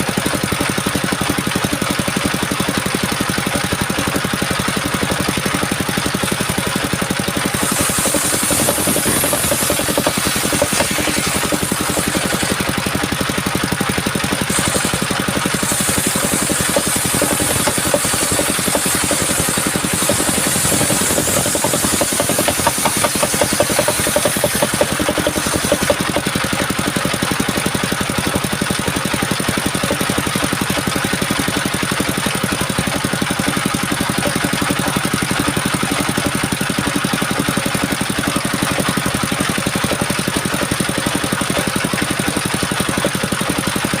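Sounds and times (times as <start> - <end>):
sawmill engine running: 0.0 - 44.0.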